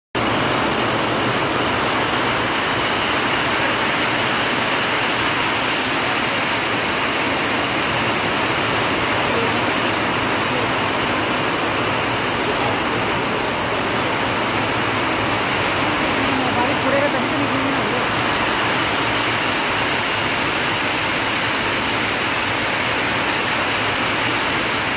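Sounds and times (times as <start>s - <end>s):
steady rushing hiss: 0.2s - 24.9s.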